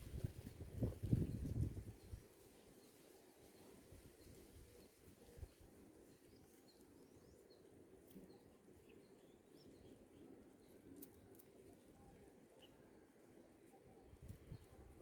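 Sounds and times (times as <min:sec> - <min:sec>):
faint bird chirps: 0:02.8 - 0:15.0.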